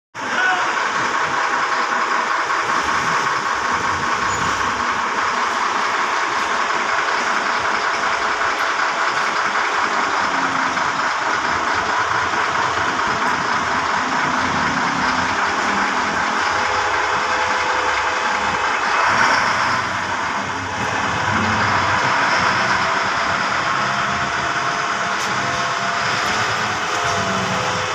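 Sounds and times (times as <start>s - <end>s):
wheel loader diesel engine: 0.2s - 27.9s.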